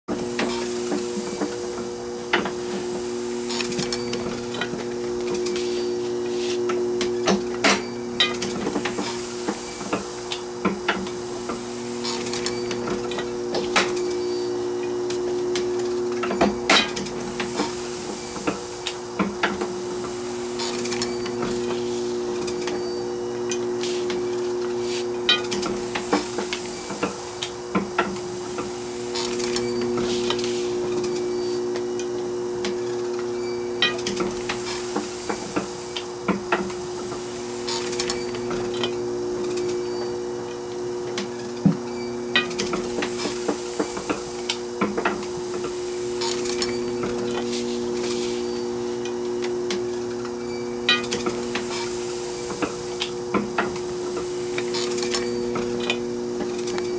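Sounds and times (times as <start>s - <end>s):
printing press motor hum: 0.1s - 56.9s
printing press mechanism clacking: 7.0s - 22.8s, 23.5s - 40.1s, 41.0s - 56.9s.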